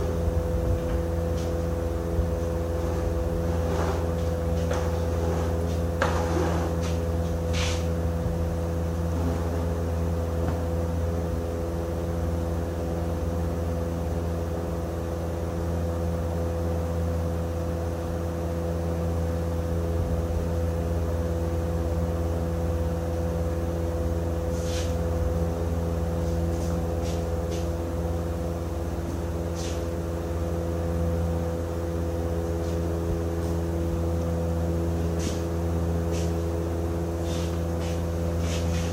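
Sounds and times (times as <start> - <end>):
engine droning steadily: 0.0 - 38.9.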